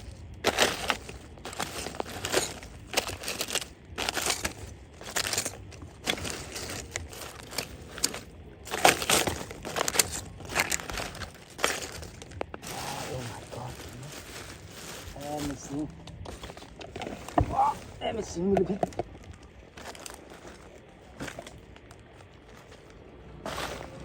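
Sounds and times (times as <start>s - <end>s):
dry leaves crunching and rustling: 0.0s - 24.0s.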